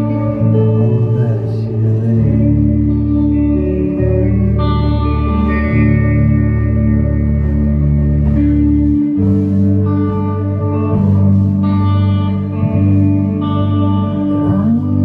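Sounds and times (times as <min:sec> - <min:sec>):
bass guitar: 0:00.0 - 0:15.0
electric guitars playing chords: 0:00.0 - 0:15.0.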